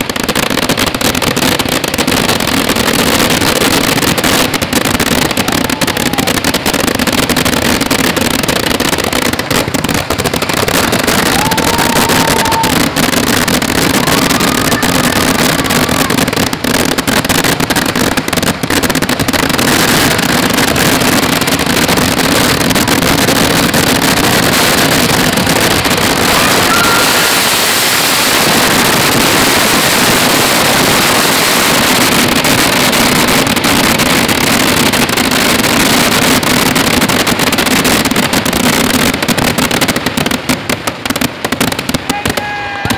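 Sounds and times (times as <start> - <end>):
firecrackers bursting rapidly: 0.0 - 42.9.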